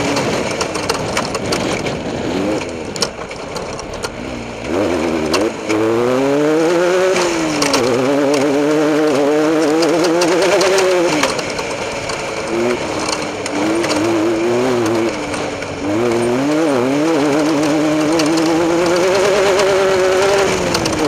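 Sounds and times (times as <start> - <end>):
race vehicle engine revving: 0.0 - 21.0
sharp clicks and knocks: 0.0 - 21.0.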